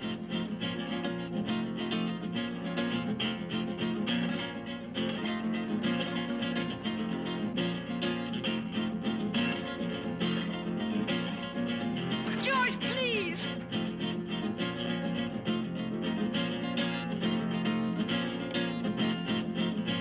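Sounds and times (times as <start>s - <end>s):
flamenco acoustic guitar strumming: 0.0s - 20.0s.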